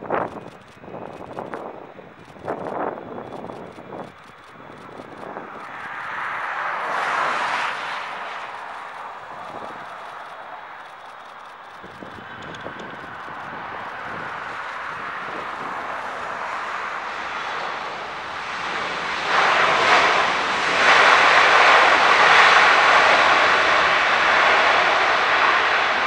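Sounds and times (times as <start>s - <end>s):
jet engines reverse thrust roar: 0.0s - 26.0s.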